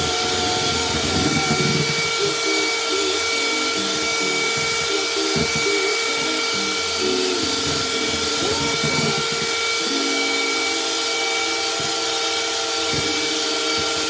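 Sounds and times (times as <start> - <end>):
beaters whipping thick mixture: 0.0 - 14.0
electric hand mixer whine: 0.0 - 14.0.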